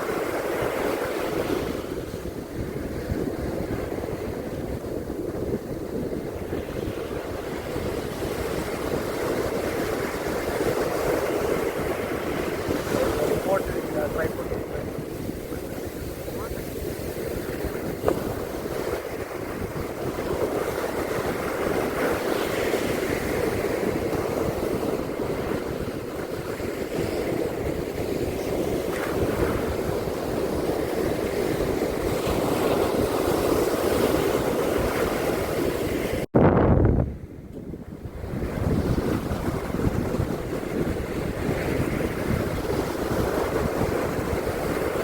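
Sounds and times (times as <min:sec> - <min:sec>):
surf washing on beach: 0:00.0 - 0:36.3, 0:37.1 - 0:45.0
wind rumbling on microphone: 0:00.0 - 0:45.0.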